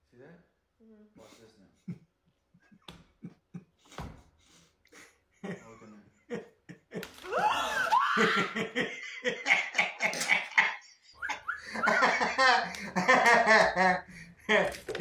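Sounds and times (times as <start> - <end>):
hearty laughter: 1.7 - 15.0.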